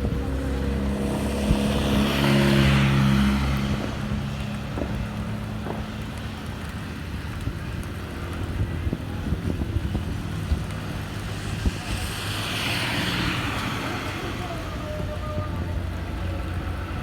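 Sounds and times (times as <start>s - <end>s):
rain falling: 0.0s - 17.0s
road traffic hum: 0.0s - 17.0s
broad hiss of tyres on wet road: 0.2s - 17.0s.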